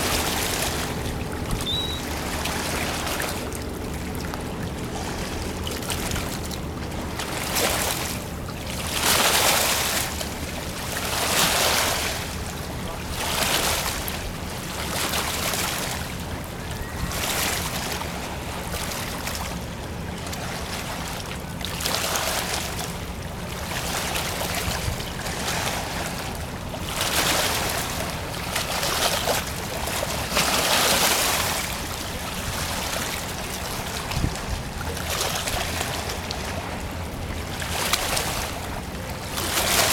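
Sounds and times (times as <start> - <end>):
ship machinery hum: 0.0 - 39.9
water splashing along hull: 0.0 - 39.9.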